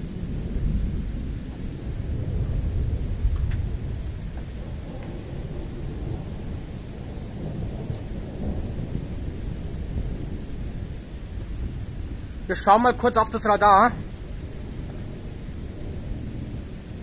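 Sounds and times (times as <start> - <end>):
rain hissing: 0.0 - 17.0
rolling thunder: 0.0 - 17.0.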